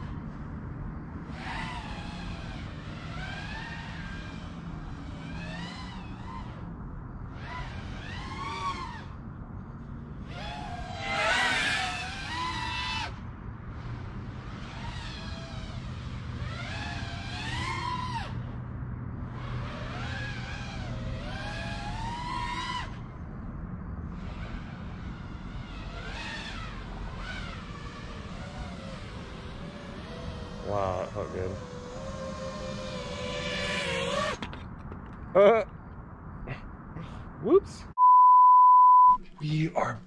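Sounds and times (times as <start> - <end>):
quadcopter motors whining: 0.0 - 35.5.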